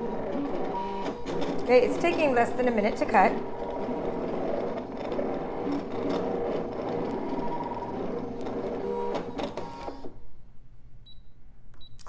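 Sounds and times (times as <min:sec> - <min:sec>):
cutting machine motors whirring: 0:00.0 - 0:10.1.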